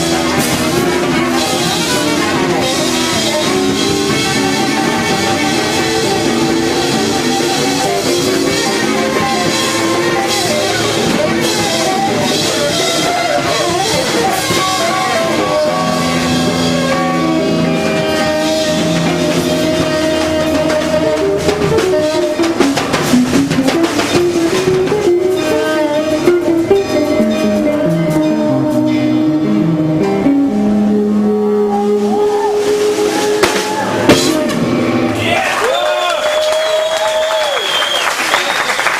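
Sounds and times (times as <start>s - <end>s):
drum kit: 0.0s - 38.9s
guitar: 0.0s - 38.9s
jazz band playing: 0.0s - 38.9s.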